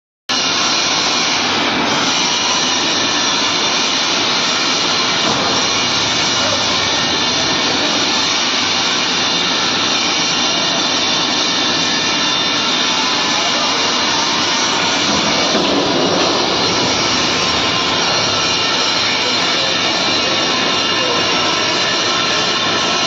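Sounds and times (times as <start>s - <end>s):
wood fire roaring in furnace: 0.3s - 23.0s.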